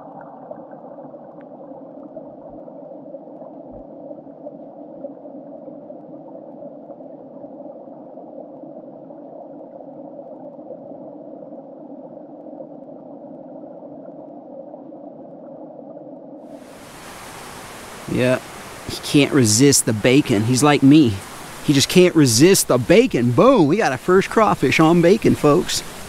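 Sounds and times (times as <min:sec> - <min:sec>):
muffled underwater water rush: 0:00.0 - 0:26.0.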